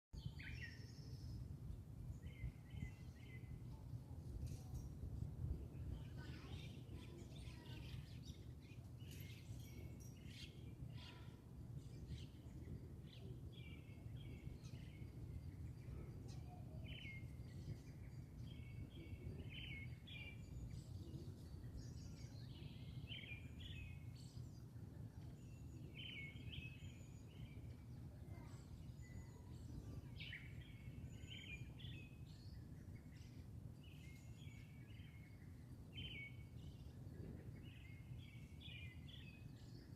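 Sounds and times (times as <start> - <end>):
small birds chirping: 0.2 - 39.9.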